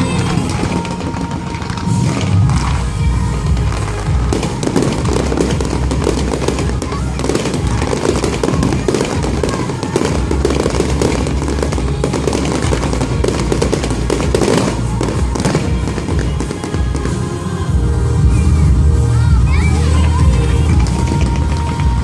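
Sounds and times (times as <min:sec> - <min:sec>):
fireworks crackling and banging: 0:00.0 - 0:18.8, 0:19.4 - 0:22.0
music playing: 0:00.0 - 0:22.0.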